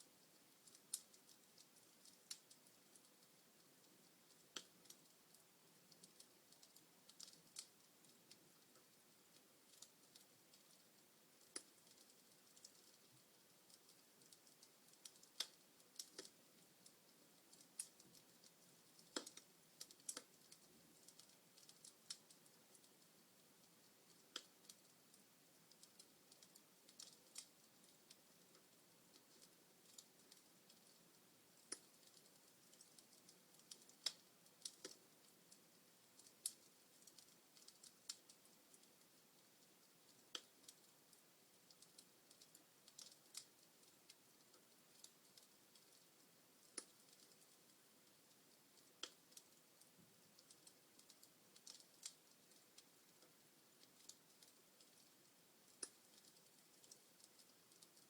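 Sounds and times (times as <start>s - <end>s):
soft hiss of flames: 0.0s - 58.0s
wood fire crackling: 0.0s - 58.0s.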